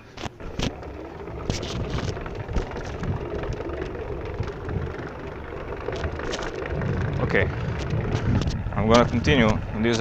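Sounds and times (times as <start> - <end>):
board rolling with low rumble: 0.0 - 10.0
wheel knocking over bumps: 0.4 - 10.0
wind on microphone: 0.4 - 10.0.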